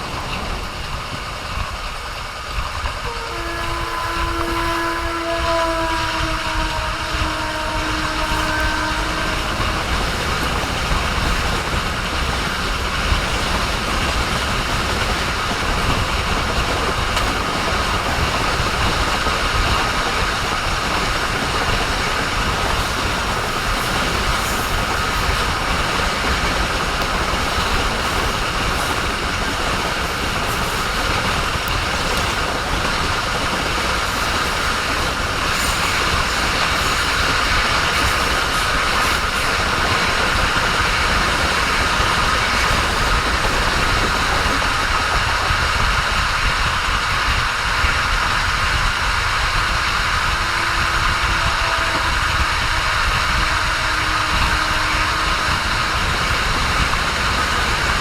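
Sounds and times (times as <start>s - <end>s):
train running on rails: 0.0s - 58.0s.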